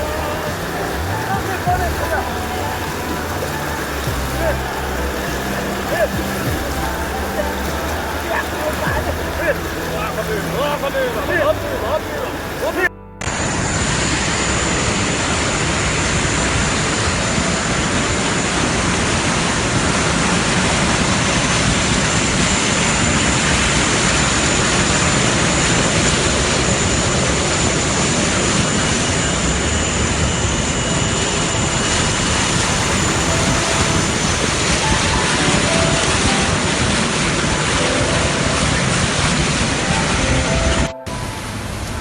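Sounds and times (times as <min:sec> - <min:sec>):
rushing floodwater roar: 0:00.0 - 0:42.0.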